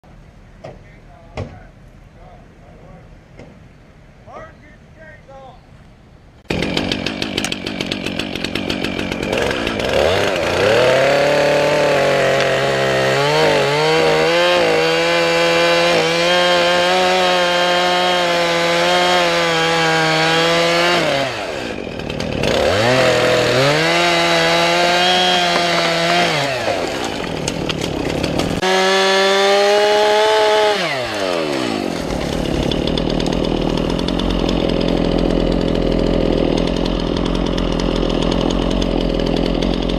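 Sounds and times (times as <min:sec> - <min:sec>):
chainsaw running at high revs: 0:06.5 - 0:39.9.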